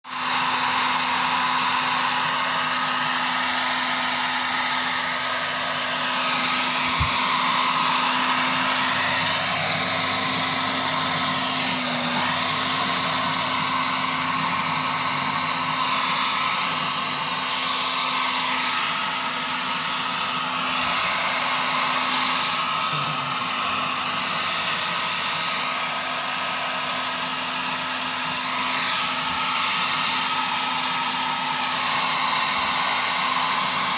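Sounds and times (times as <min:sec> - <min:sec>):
hair dryer blowing: 0:00.0 - 0:33.9.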